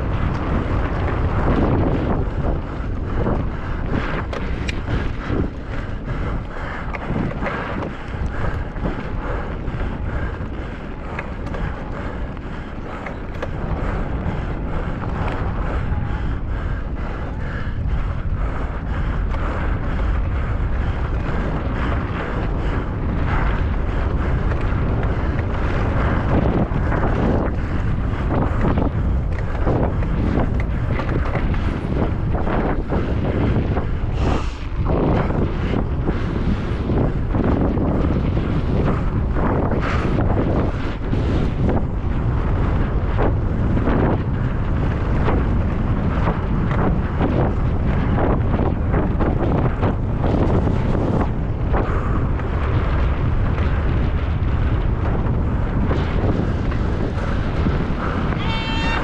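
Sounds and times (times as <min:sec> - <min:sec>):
bike rattling over rough ground: 0:00.0 - 0:59.0
wind rushing over microphone: 0:00.0 - 0:59.0.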